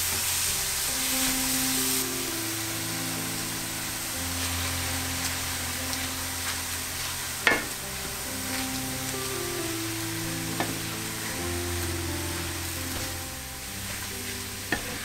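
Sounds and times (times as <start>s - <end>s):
background music: 0.0s - 15.0s
vegetables sizzling in a pan: 0.0s - 15.0s.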